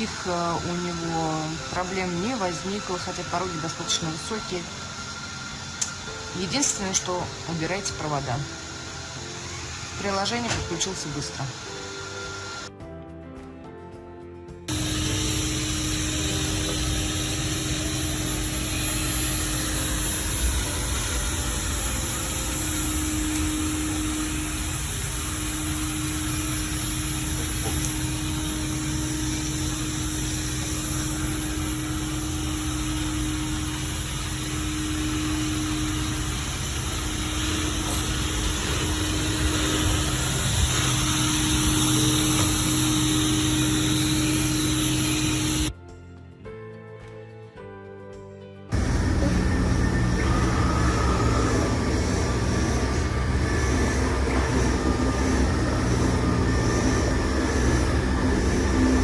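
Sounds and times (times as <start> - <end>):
robot vacuum motor humming: 0.0 - 12.7, 14.7 - 45.7, 48.7 - 59.0.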